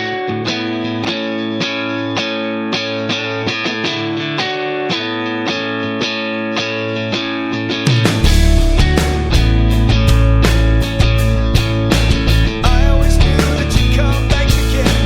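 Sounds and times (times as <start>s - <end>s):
guitar picking: 0.0s - 15.0s.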